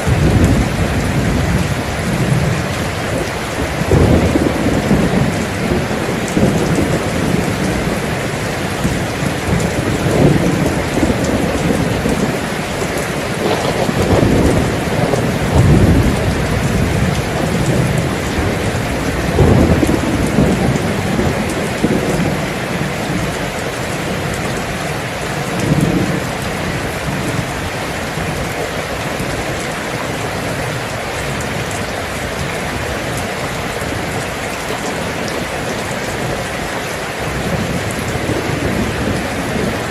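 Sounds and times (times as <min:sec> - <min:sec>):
heavy rain: 0:00.0 - 0:39.9
rolling thunder: 0:00.0 - 0:39.9.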